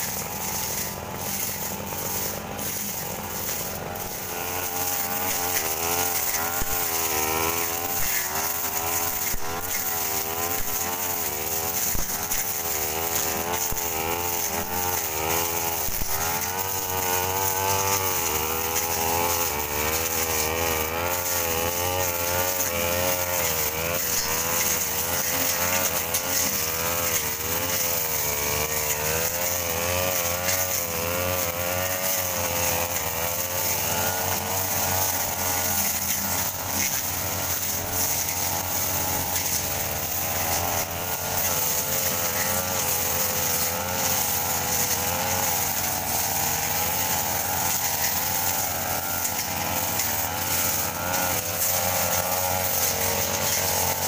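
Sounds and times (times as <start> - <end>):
brush cutter engine cutting grass: 0.0 - 54.0.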